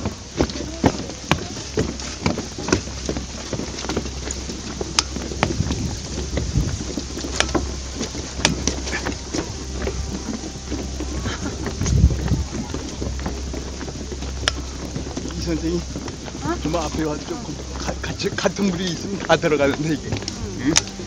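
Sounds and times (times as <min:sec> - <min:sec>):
irregular clicks and light knocks: 0:00.0 - 0:21.0
low rumble: 0:00.0 - 0:21.0.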